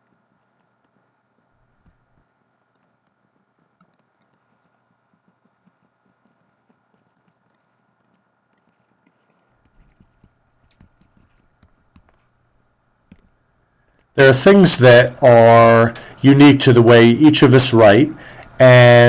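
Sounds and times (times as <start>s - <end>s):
stylus tapping and scratching screen: 0.0s - 15.8s.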